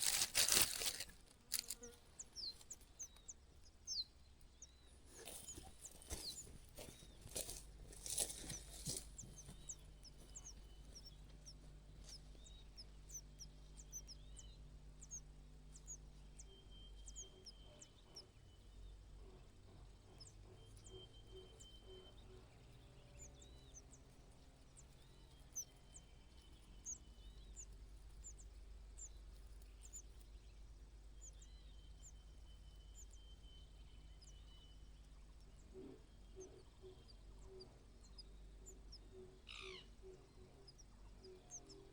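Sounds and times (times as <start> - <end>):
faint high-pitched bird chirps: 0.0 - 41.9
low steady hum: 0.0 - 41.9.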